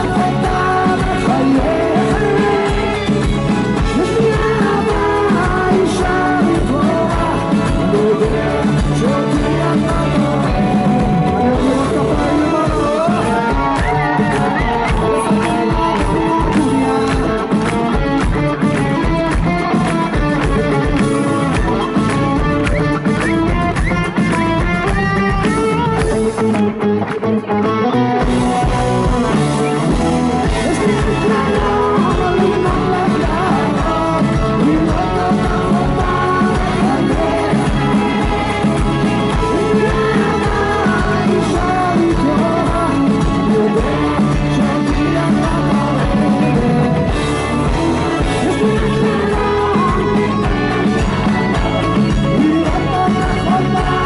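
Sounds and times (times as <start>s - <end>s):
steady drum beat: 0.0s - 26.4s, 28.2s - 54.0s
electric guitar: 0.0s - 54.0s
person singing: 0.0s - 54.0s.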